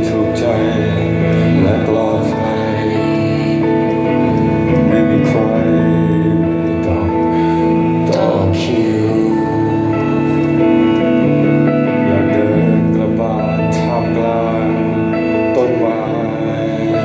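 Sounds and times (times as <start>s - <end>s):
electric guitar chords: 0.0s - 17.0s
person singing: 0.0s - 17.0s.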